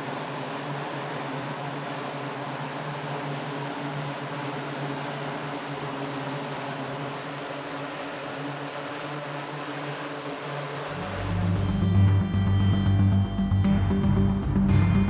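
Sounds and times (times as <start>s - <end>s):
faint high whine: 0.0s - 15.0s
turboprop engines running: 0.0s - 15.0s.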